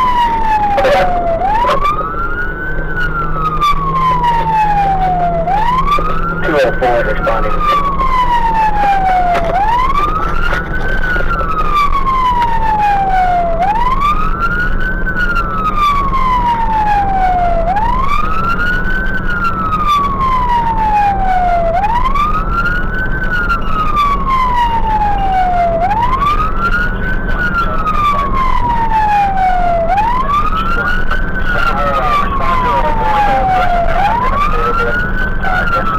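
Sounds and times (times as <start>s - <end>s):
fire engine siren wailing: 0.0s - 35.9s
truck low drone: 0.0s - 35.9s.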